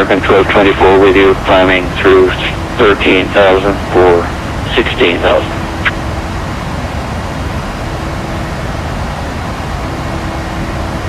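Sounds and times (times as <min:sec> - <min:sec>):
airplane cabin engine and airflow noise: 0:00.0 - 0:11.0
faint hum: 0:00.0 - 0:11.0.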